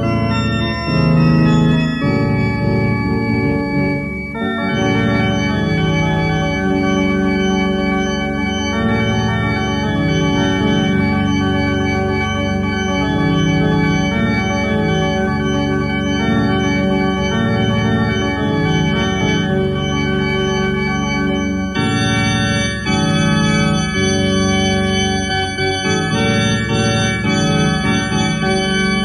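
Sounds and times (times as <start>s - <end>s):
organ-like keyboard chords: 0.0s - 29.0s.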